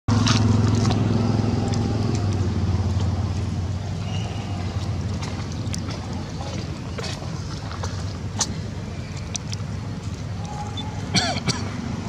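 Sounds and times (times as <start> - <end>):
low motor hum: 0.1 - 12.0.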